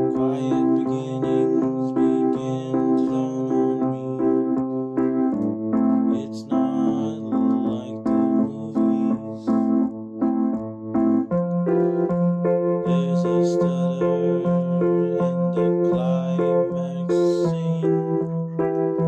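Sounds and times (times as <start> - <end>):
electric piano playing chords: 0.0 - 19.0.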